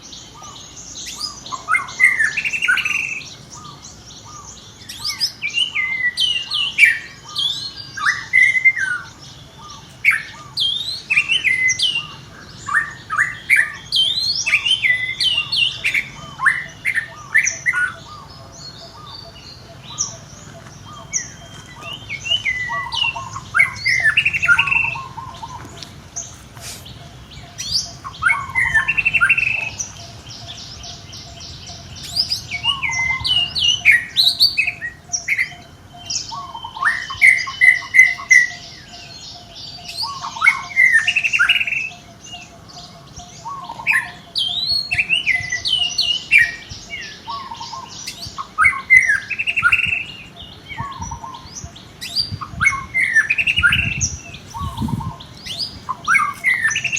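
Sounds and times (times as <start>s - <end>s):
bird chirping phrase: 0.0s - 56.9s
other bird calls: 0.0s - 56.9s.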